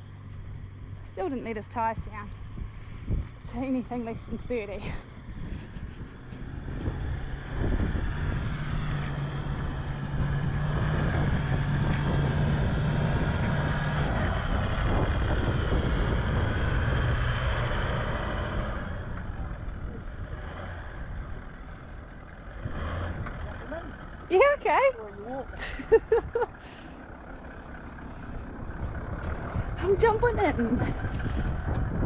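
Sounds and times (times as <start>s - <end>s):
vehicle engine under load: 0.0s - 32.0s.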